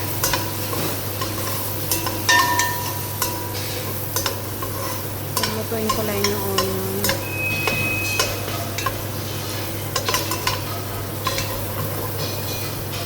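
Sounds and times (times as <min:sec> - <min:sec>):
onion sizzling in a pan: 0:00.0 - 0:13.0
utensil scraping and clicking pan: 0:00.1 - 0:09.0, 0:09.9 - 0:13.0.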